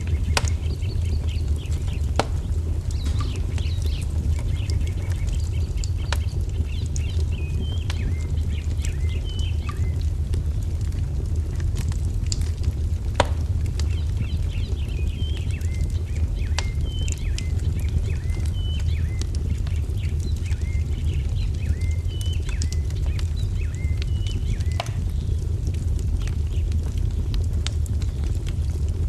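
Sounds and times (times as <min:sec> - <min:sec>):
small birds chirping: 0:00.0 - 0:10.9, 0:13.6 - 0:29.0
fire crackling: 0:00.0 - 0:29.0.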